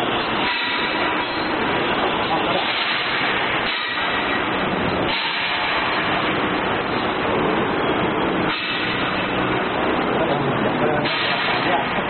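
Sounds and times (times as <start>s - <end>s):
loud workshop din: 0.0s - 12.0s.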